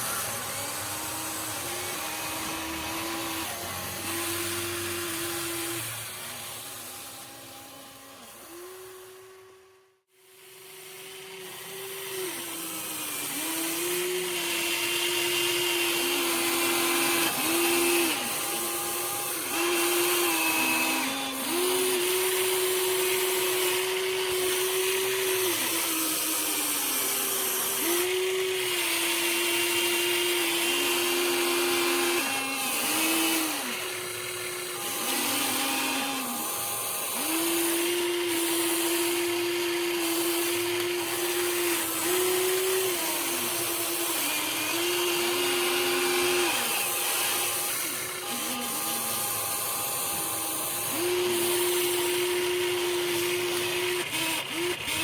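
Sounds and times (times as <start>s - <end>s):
toy excavator motors whining: 0.0s - 55.0s.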